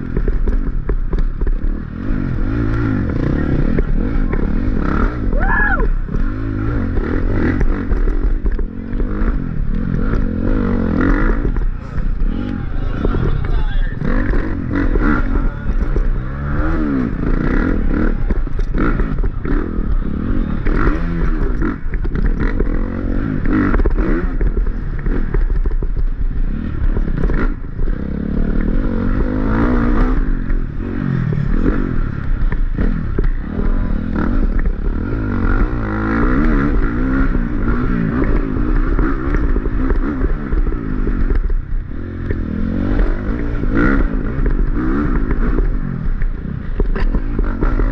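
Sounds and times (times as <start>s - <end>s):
bike clattering over rough ground: 0.0s - 47.9s
dirt bike engine revving: 0.0s - 47.9s.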